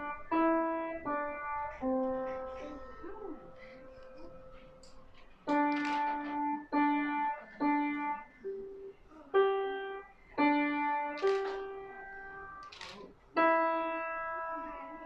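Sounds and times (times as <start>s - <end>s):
child playing piano melody: 0.0s - 15.0s.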